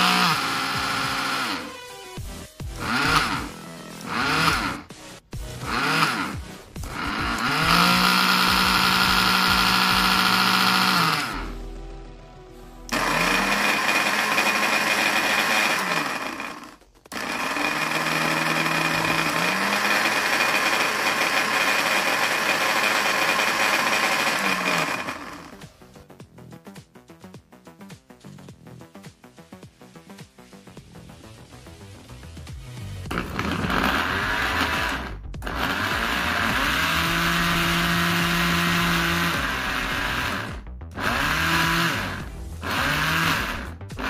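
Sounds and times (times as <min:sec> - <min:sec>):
empty blender motor whining: 0:00.0 - 0:11.6, 0:12.9 - 0:25.7, 0:33.0 - 0:44.0.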